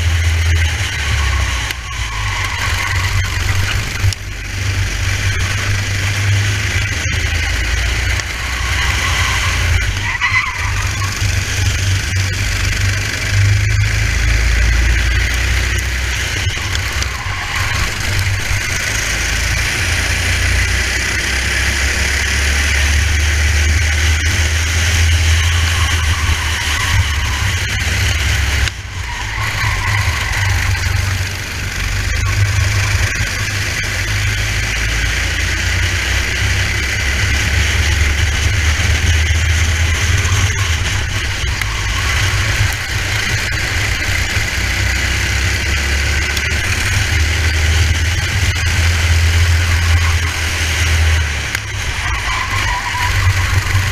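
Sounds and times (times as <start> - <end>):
racing kart engine running hard: 0.0 - 53.9.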